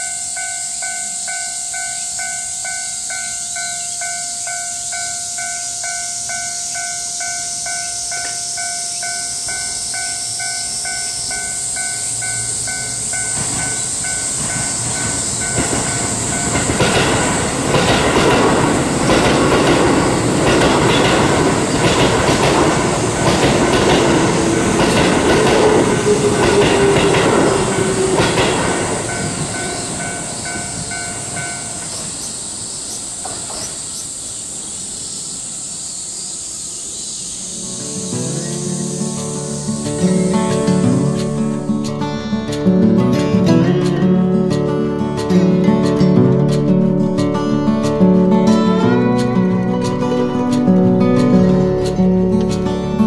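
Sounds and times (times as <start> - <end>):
level-crossing warning bell: 0.0 - 33.2, 37.4 - 53.0
wheels clacking over rail joints: 0.0 - 34.2, 37.6 - 53.0
train falling whine: 0.0 - 53.0.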